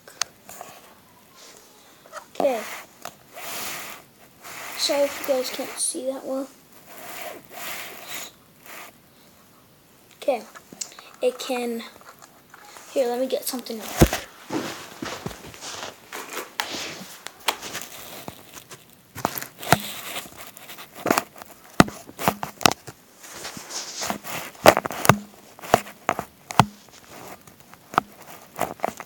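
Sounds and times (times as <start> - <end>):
rustling: 0.1 - 9.4, 10.3 - 29.0.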